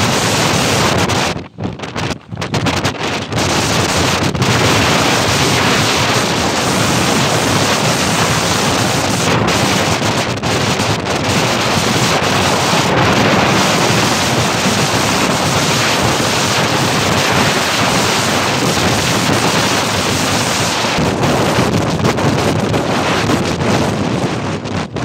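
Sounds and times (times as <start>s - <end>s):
storm wind blasting microphone: 0.0s - 25.0s.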